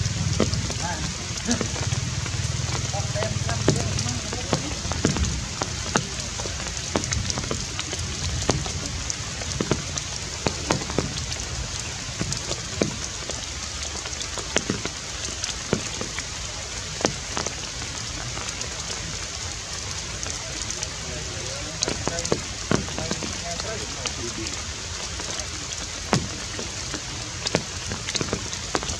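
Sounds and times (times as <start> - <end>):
raindrop impacts: 0.0 - 28.9
steady rain: 0.0 - 28.9.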